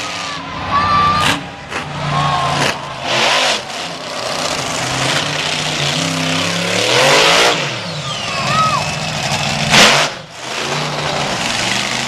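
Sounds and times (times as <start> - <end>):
truck engine idling and revving: 0.0 - 12.0.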